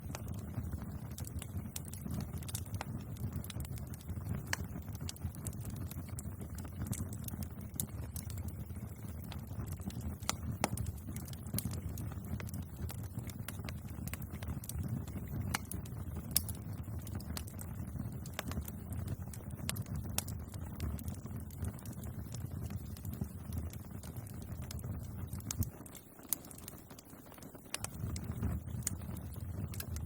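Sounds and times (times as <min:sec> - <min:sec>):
burning wood crackling and popping: 0:00.0 - 0:30.0
flames rumbling: 0:00.0 - 0:30.0.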